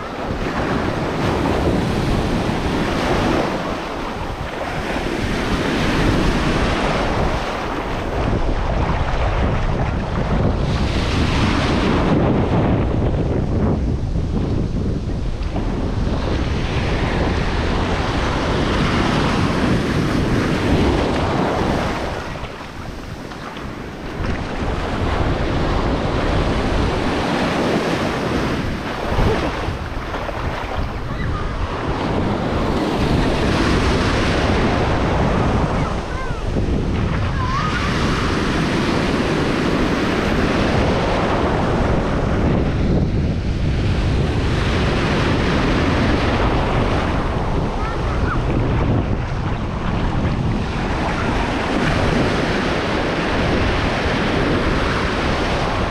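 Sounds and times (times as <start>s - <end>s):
ocean surf breaking: 0.0s - 55.9s
wind buffeting microphone: 0.0s - 55.9s.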